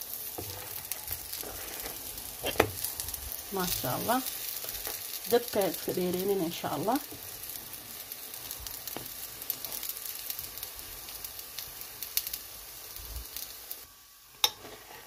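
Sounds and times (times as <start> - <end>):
flatbreads sizzling in oil: 0.0 - 15.0.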